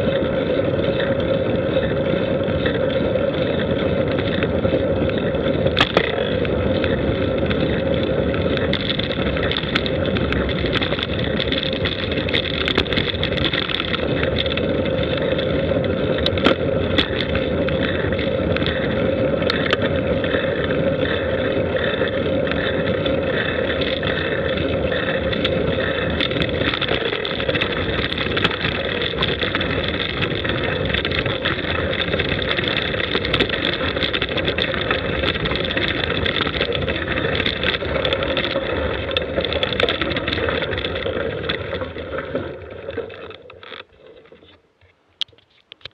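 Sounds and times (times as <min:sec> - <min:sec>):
vehicle rumble on rough road: 0:00.0 - 0:45.9
small clicks and knocks: 0:04.2 - 0:20.4, 0:21.8 - 0:45.9.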